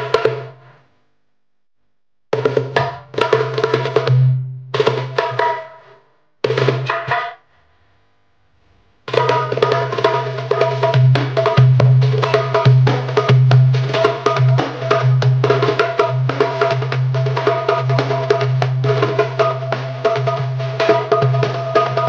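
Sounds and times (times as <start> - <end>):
darbuka strokes: 0.0 - 0.8, 2.4 - 7.4, 9.1 - 22.0.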